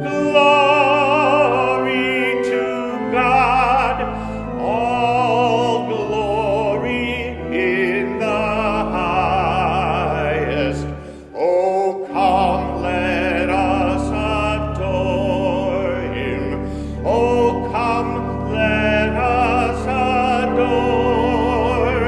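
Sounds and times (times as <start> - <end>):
classical singing with vibrato: 0.0 - 22.0
sustained instrumental accompaniment: 0.0 - 22.0.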